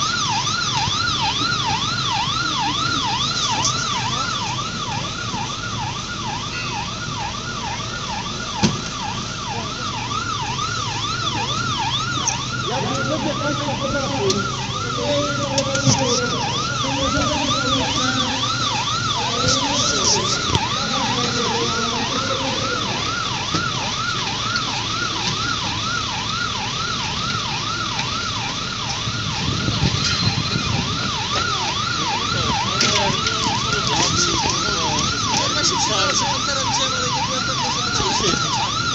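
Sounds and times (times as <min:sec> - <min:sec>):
siren yelping: 0:00.0 - 0:38.9.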